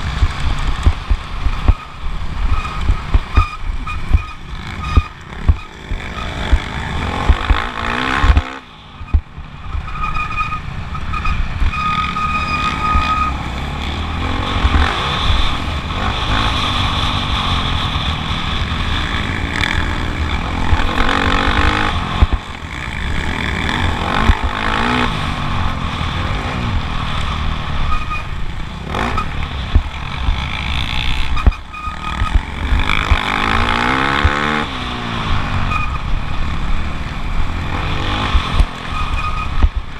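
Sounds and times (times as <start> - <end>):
motocross bike engine revving: 0.0 - 8.7, 11.6 - 39.9.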